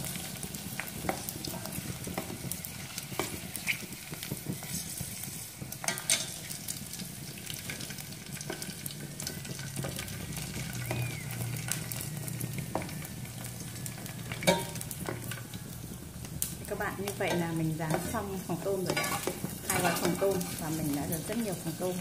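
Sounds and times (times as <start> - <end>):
crackers sizzling in hot oil: 0.0 - 22.0.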